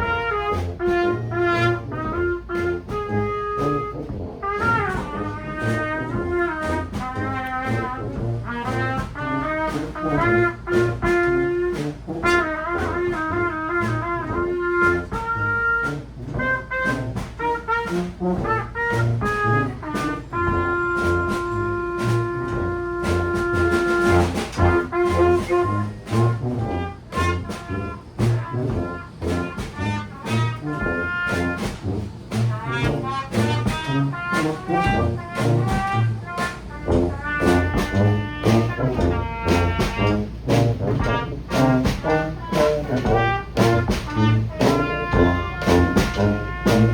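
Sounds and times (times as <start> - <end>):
brass band playing jazzy tune: 0.0 - 46.9
drum hits: 0.0 - 46.9.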